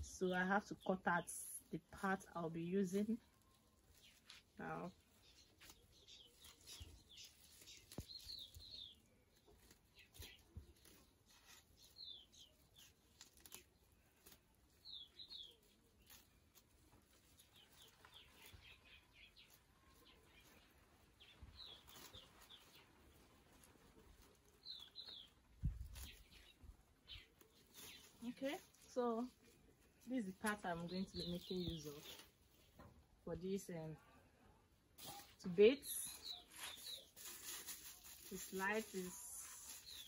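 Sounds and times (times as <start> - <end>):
small birds chirping: 0.0 - 40.0
sack rustling: 3.0 - 32.7, 35.0 - 40.0.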